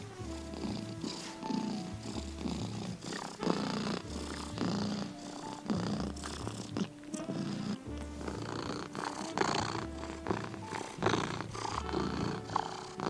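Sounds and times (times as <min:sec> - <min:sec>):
cat purring: 0:00.0 - 0:13.0
soft background music: 0:00.0 - 0:13.0.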